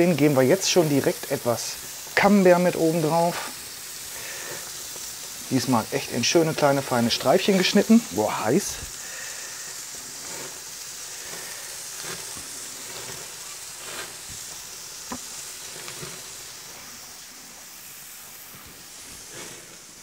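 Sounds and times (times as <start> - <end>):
food sizzling on a grill: 0.0 - 20.0.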